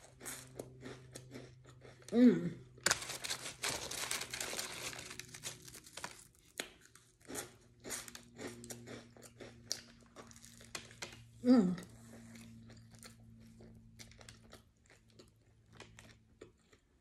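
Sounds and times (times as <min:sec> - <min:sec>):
close chewing of crunchy food: 0:00.0 - 0:17.0.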